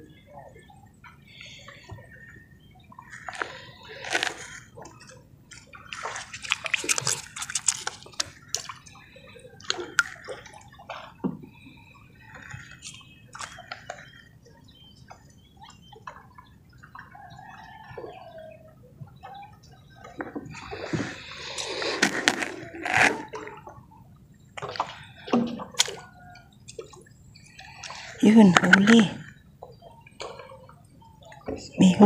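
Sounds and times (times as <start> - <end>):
water sloshing and splashing: 0.0 - 32.0.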